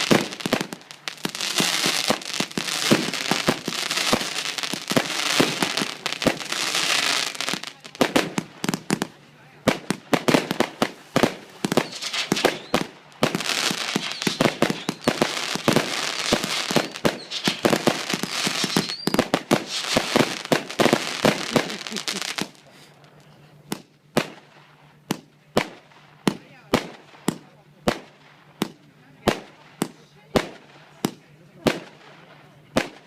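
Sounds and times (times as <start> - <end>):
firework bangs and crackle: 0.0 - 33.0.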